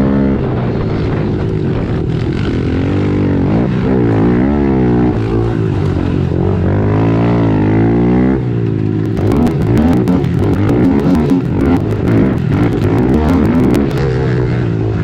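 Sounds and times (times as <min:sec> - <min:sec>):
pit bike engines racing: 0:00.0 - 0:15.0.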